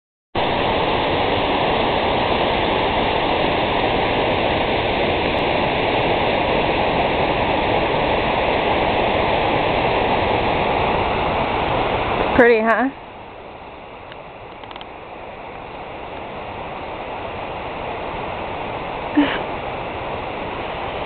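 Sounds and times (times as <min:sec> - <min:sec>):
water rushing over rocks: 0:00.4 - 0:21.0.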